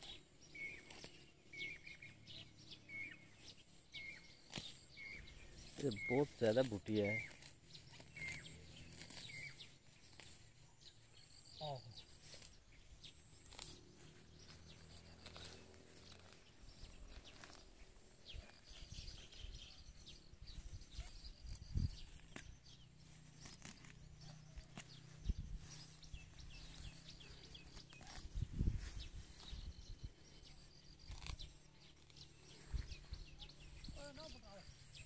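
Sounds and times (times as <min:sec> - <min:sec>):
rustling in tall grass: 0:00.0 - 0:35.0.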